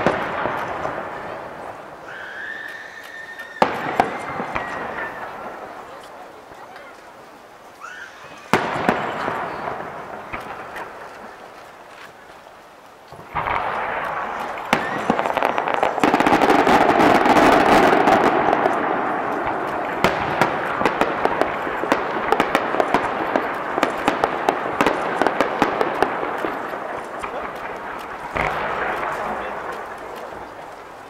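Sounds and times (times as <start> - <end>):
fireworks crackling and popping: 0.0 - 31.0.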